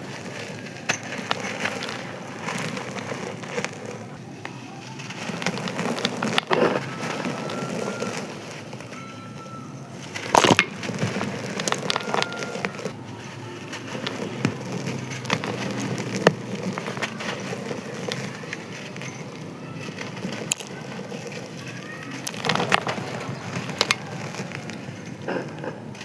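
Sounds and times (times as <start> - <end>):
sand-cement chunks crumbling: 0.0 - 26.0.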